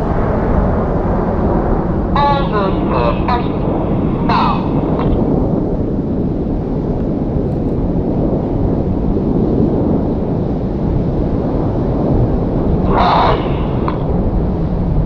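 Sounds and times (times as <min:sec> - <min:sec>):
jet engines roaring overhead: 0:00.0 - 0:15.0.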